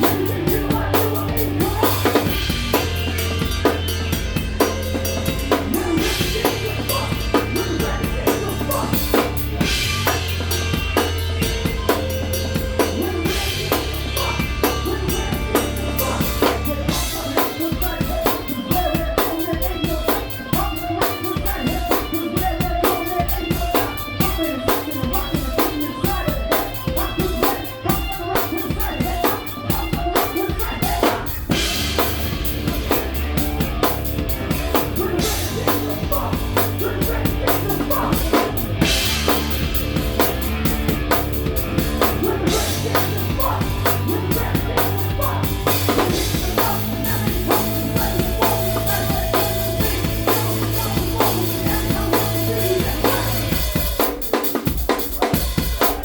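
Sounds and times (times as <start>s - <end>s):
bass: 0.0s - 56.0s
distorted electric guitar: 0.0s - 56.0s
drum kit beat: 0.0s - 56.0s.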